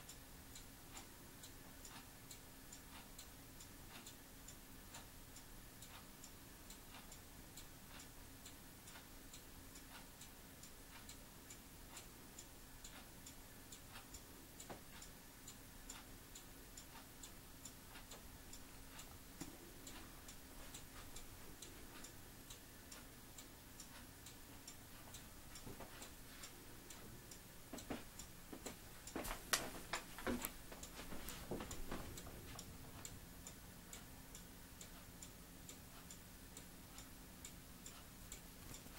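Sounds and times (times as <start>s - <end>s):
faint steady ticking: 0.0s - 38.9s
low steady hum: 0.0s - 38.9s.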